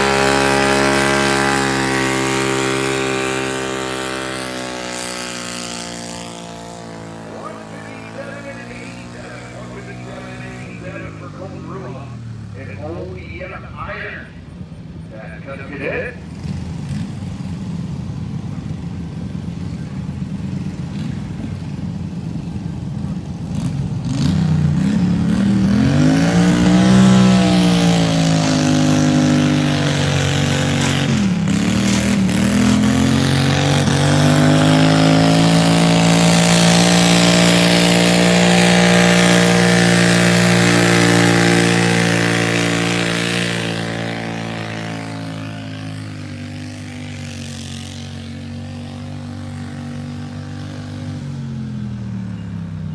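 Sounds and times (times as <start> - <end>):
tractor engine revving under load: 0.0 - 19.9, 20.6 - 51.7.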